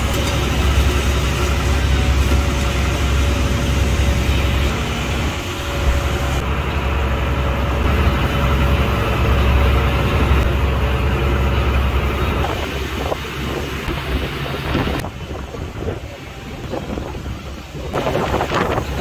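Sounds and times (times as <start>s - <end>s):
boat engine low rumble: 0.0s - 19.0s.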